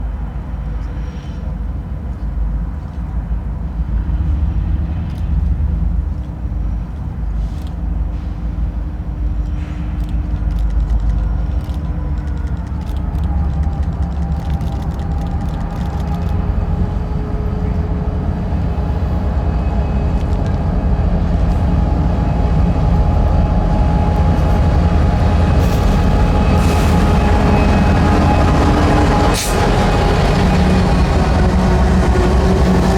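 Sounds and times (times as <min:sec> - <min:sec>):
train rumbling: 0:00.0 - 0:32.9.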